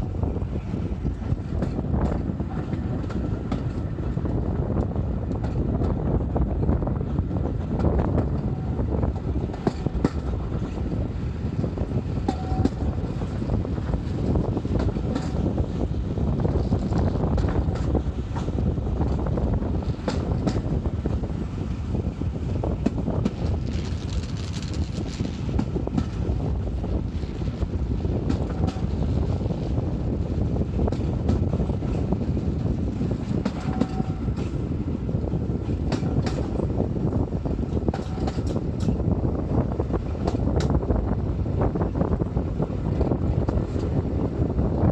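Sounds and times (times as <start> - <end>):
steam train rumbling: 0.0 - 44.9
wind on microphone: 0.0 - 44.9.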